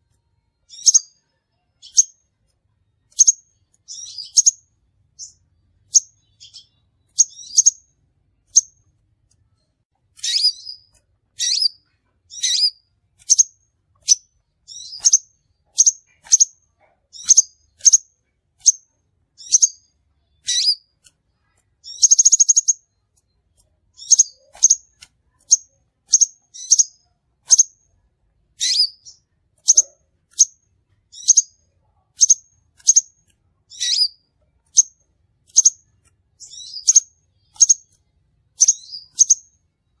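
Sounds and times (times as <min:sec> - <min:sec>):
bird sharp high chirps: 0:00.6 - 0:02.3, 0:03.1 - 0:08.8, 0:10.2 - 0:21.1, 0:21.8 - 0:23.0, 0:23.9 - 0:27.9, 0:28.6 - 0:40.0.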